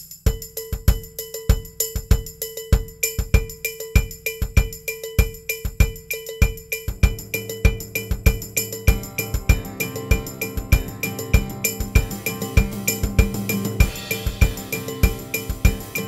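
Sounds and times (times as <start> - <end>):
percussion music with fast beat: 0.0 - 16.0.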